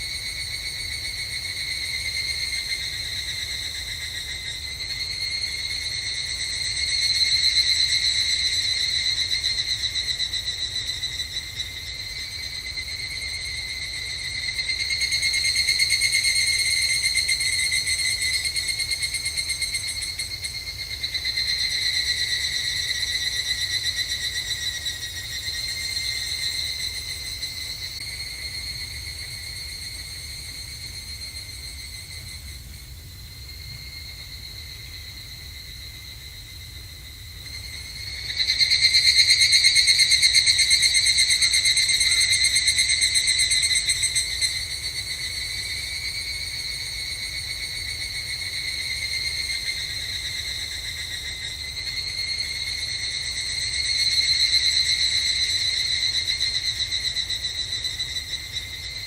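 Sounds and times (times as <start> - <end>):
cicadas trilling: 0.0 - 59.0.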